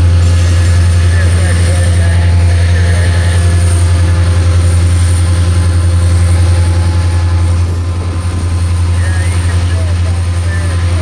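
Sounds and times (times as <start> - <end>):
diesel locomotives droning: 0.0 - 11.0.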